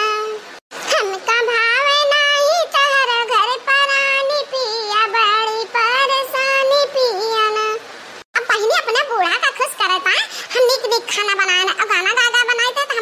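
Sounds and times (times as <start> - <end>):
high-pitched voice singing: 0.0 - 13.0.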